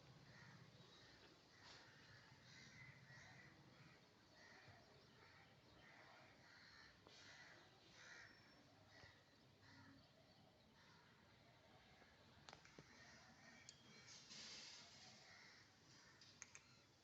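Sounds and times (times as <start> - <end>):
faint harsh bird calls: 0.0 - 17.0.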